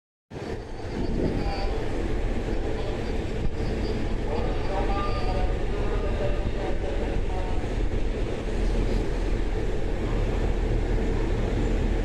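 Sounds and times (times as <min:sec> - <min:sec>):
electric train rumble and hum: 0:00.3 - 0:12.0.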